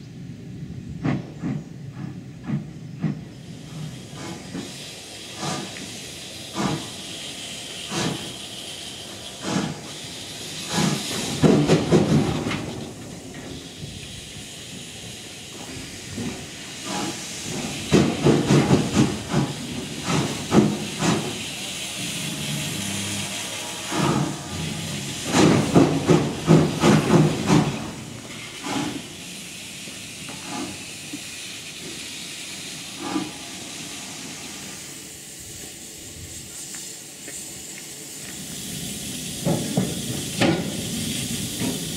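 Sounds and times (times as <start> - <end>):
steam locomotive hissing: 0.2 - 41.9
locomotive chimney chuffs: 1.9 - 41.9.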